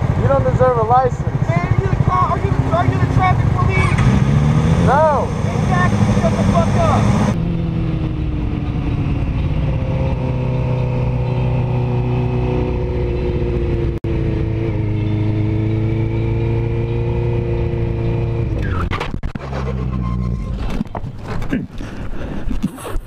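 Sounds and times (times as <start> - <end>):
motorcycle engine running: 0.0 - 19.3.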